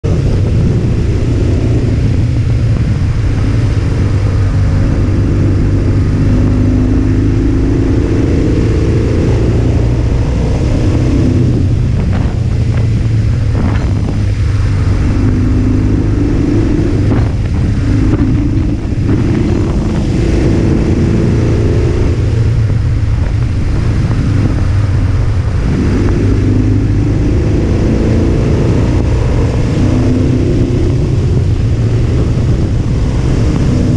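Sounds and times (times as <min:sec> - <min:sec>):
low hum and rushing noise: 0:00.0 - 0:33.9
motorcycle engine riding: 0:00.0 - 0:33.9.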